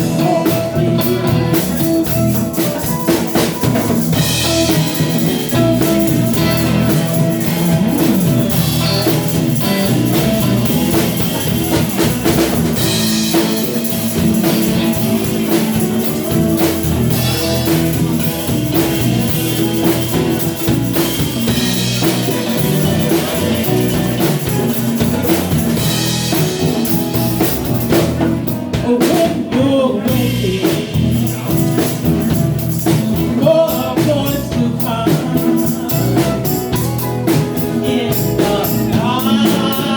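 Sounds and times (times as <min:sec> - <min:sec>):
person singing: 0:00.0 - 0:27.4, 0:28.4 - 0:39.9
drum kit beat: 0:00.0 - 0:39.9
guitar: 0:00.0 - 0:39.9.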